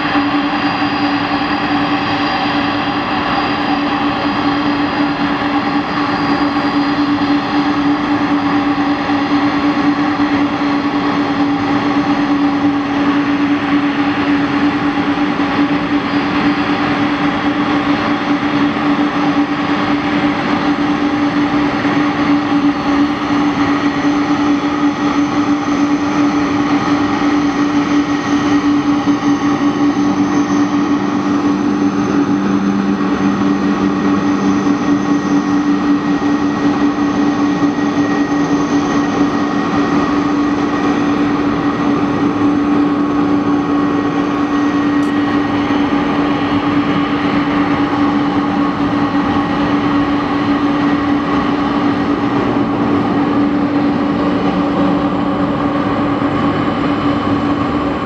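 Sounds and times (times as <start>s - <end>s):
jet engines running: 0.0s - 58.0s
lower hum: 0.0s - 58.0s.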